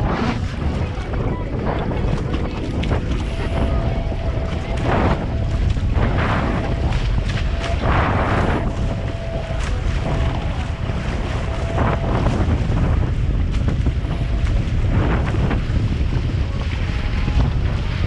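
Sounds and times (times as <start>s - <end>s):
water rushing along hulls: 0.0s - 18.0s
wind buffeting microphone: 0.0s - 18.0s.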